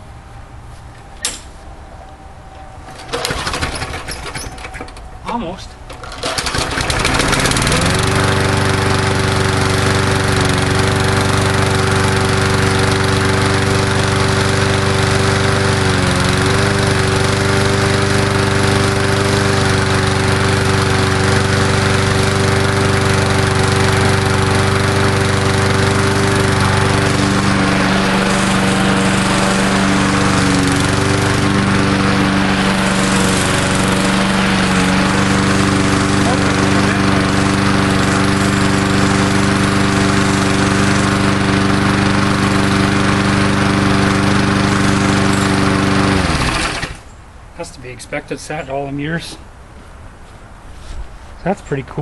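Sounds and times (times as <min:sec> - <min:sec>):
lawn mower engine running: 0:02.8 - 0:49.4.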